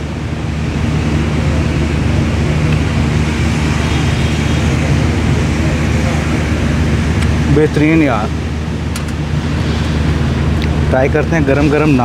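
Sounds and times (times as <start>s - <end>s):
machinery droning hum: 0.0s - 12.0s
rushing background noise: 0.0s - 12.0s.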